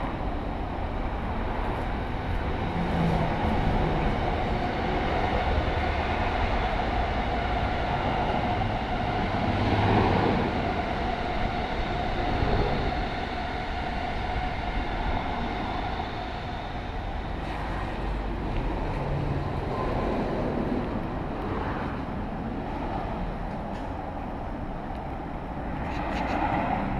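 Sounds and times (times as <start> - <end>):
train passing: 0.0 - 26.9.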